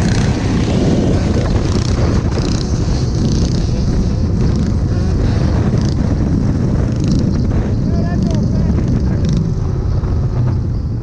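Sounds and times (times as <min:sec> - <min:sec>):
vehicle engines rumbling: 0:00.0 - 0:11.0
wind buffeting microphone: 0:00.0 - 0:11.0.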